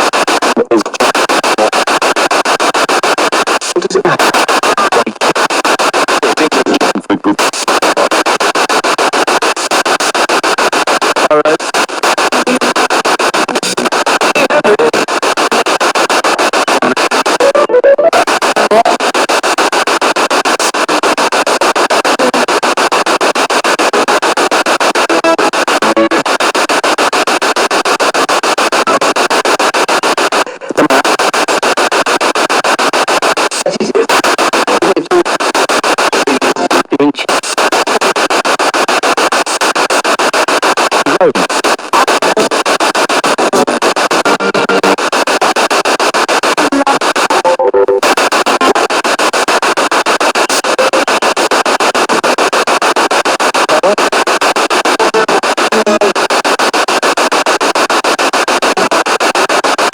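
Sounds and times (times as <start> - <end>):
pulsing radio static: 0.0 - 59.9
scraps of broadcast music: 0.0 - 59.9.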